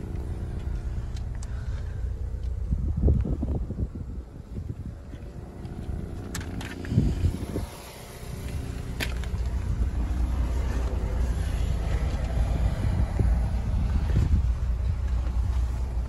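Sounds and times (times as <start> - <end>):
gusty wind rumble on microphone: 0.0 - 16.0.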